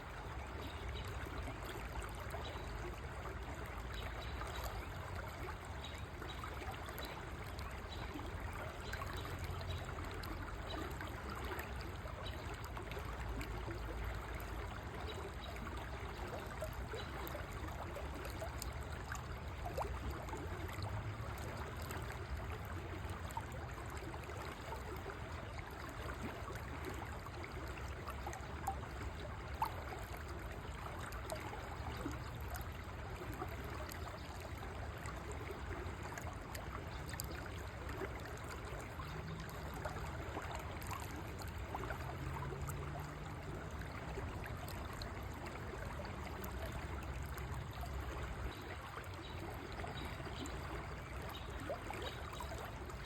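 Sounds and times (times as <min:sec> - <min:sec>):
river water babbling: 0:00.0 - 0:53.0.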